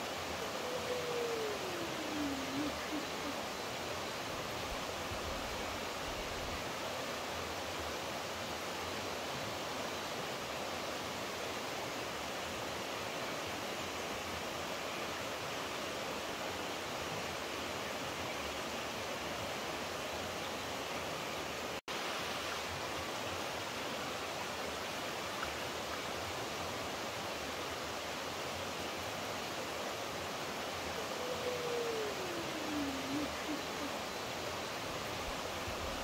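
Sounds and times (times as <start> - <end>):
water rushing: 0.0 - 36.0.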